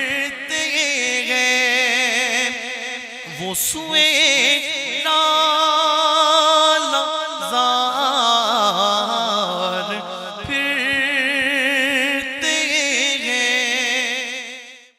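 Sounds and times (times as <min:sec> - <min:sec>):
man singing into a microphone: 0:00.0 - 0:14.9.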